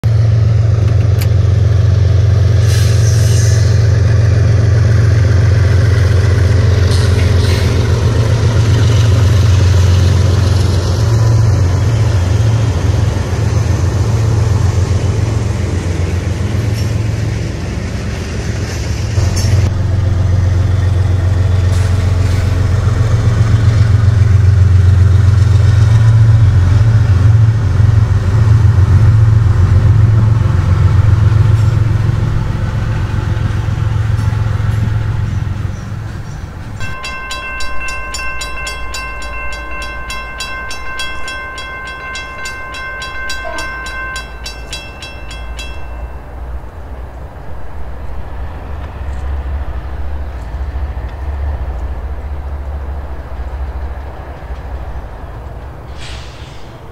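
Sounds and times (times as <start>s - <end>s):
freight train rumbling past: 0.0s - 56.9s.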